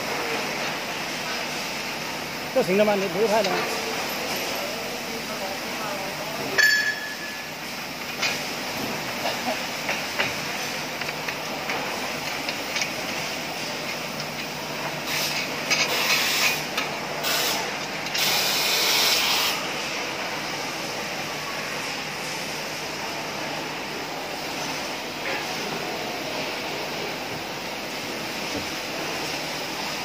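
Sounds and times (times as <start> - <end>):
workshop background noise: 0.0 - 30.0.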